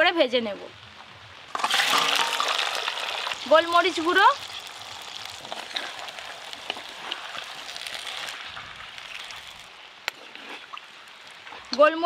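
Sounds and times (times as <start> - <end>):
oil crackles and pop: 1.3 - 12.0
chicken sizzling in hot oil: 1.5 - 11.8.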